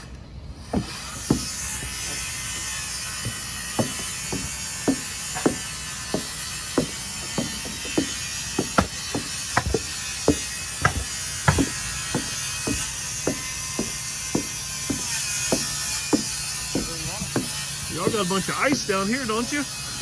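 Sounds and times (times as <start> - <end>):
hammering on timber: 0.6 - 20.0.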